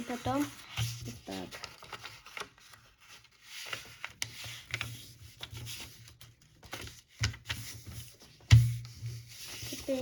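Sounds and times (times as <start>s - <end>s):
paper being folded: 0.0s - 10.0s.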